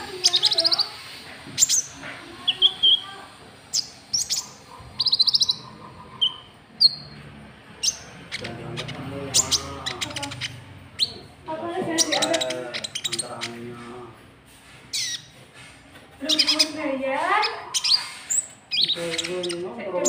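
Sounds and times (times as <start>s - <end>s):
bird chirps and trills: 0.0s - 13.9s, 14.9s - 15.5s, 16.2s - 20.0s
faint voices murmuring: 0.0s - 20.0s.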